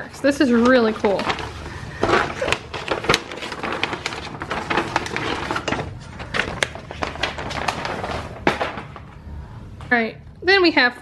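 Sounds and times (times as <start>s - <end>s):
paper poster rustling and crinkling: 0.0s - 9.4s.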